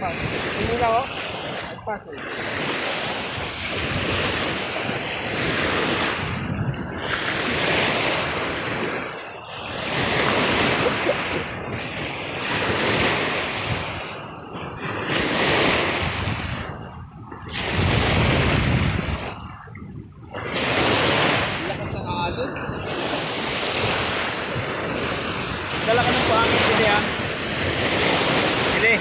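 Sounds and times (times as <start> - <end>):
lake waves lapping: 0.0 - 29.0
wind on microphone: 0.0 - 29.0.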